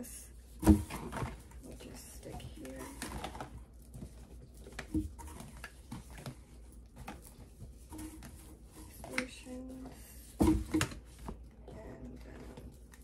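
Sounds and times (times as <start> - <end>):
plastic bottles rustling and knocking: 0.5 - 13.0.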